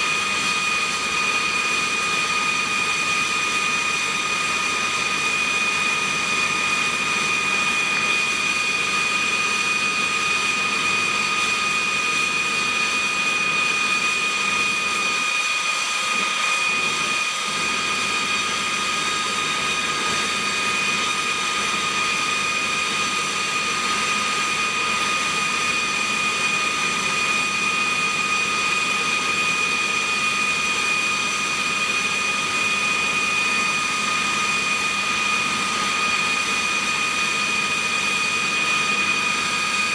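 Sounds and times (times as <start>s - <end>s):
jet engine idling with whine: 0.0s - 39.9s.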